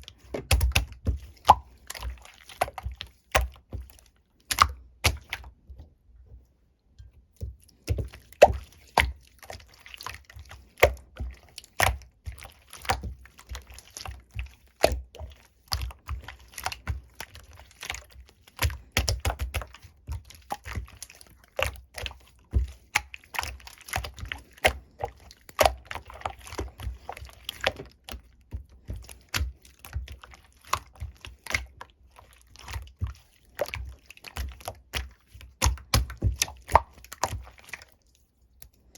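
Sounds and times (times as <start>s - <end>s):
slime squeezed with wet pops: 0.3s - 5.5s, 7.9s - 38.8s.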